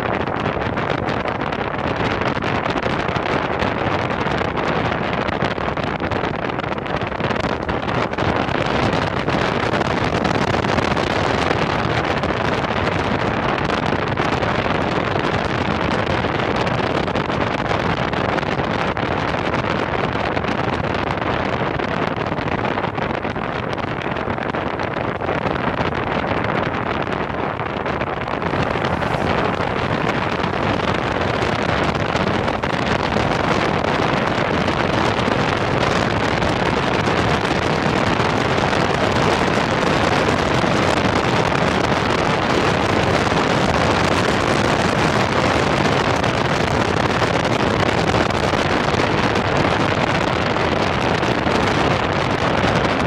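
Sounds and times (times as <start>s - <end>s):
road noise: 0.0s - 53.0s
wind rushing over microphone: 0.0s - 53.0s.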